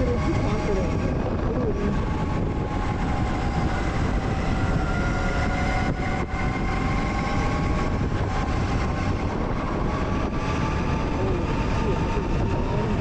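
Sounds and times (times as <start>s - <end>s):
electric motorcycle motor whine: 0.0s - 13.0s
wind rumble on microphone: 0.0s - 13.0s.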